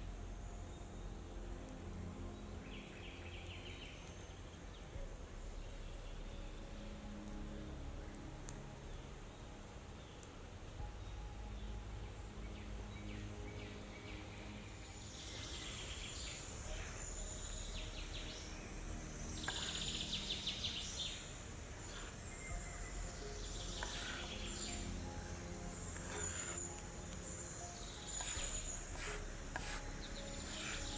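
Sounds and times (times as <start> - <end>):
small birds chirping: 0.0 - 30.9
steady low rumble: 0.0 - 30.9.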